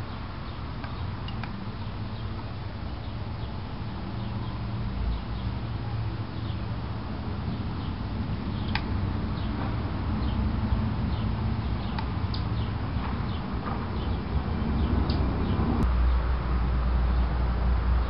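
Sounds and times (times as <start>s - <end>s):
small birds chirping: 0.0s - 16.2s
steady low hum: 0.0s - 18.0s.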